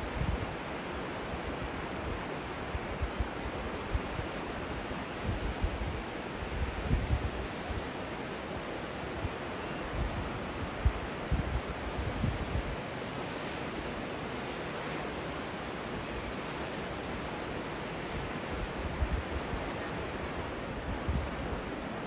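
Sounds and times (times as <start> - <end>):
wind gusts on microphone: 0.0 - 22.0.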